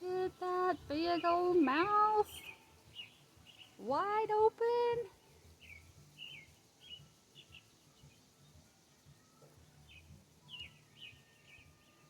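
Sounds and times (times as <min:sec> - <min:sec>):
faint bird chirps: 0:00.0 - 0:04.3, 0:05.0 - 0:12.0.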